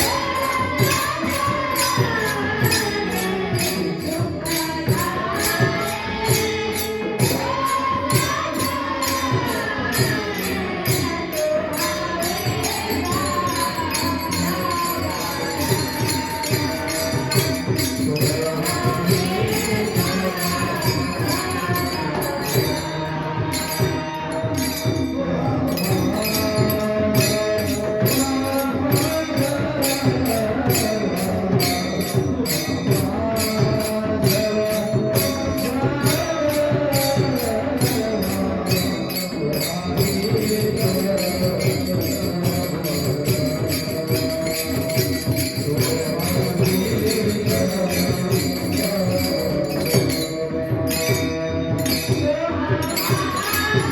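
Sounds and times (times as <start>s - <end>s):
devotional singing: 0.0s - 53.9s
jingling hand cymbals: 0.0s - 53.9s.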